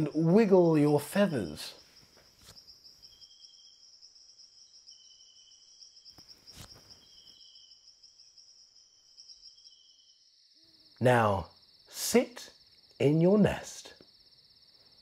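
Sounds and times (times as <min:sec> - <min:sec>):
high-pitched insect chirring: 0:00.0 - 0:14.7.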